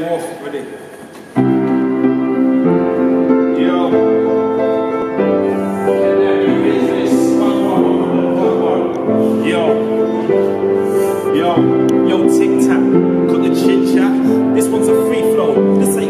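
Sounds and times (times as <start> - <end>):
piano playing slow chords: 1.4 - 16.0.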